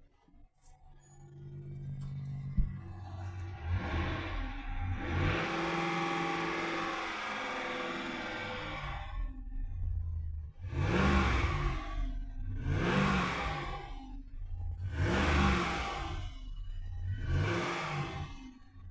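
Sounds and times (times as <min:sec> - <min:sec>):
pickup truck engine revving: 0:02.6 - 0:18.9.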